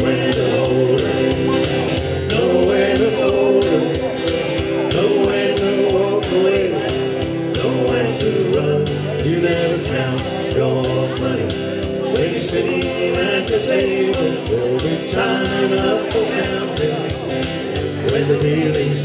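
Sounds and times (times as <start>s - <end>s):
guitars strumming: 0.0s - 19.0s
man singing: 0.0s - 19.0s.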